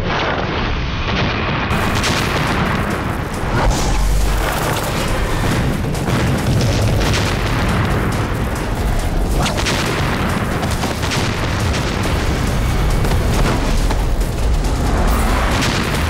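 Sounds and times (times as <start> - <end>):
explosion booms: 1.1 - 16.0
dramatic orchestral music: 1.7 - 16.0.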